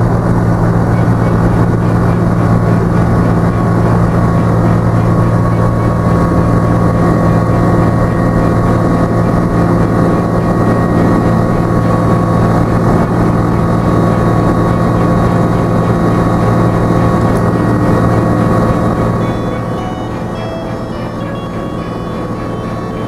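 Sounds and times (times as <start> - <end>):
aircraft engine and propeller: 0.0 - 23.0.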